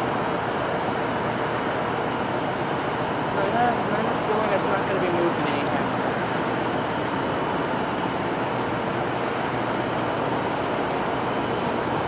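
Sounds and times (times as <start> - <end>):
diesel locomotive idling: 0.0 - 12.0.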